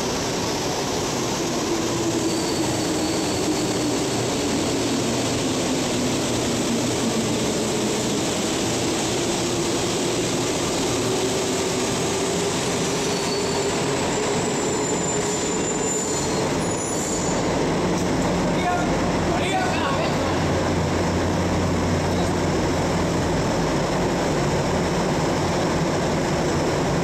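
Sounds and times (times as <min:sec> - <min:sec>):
train pulling into station: 0:00.0 - 0:27.0.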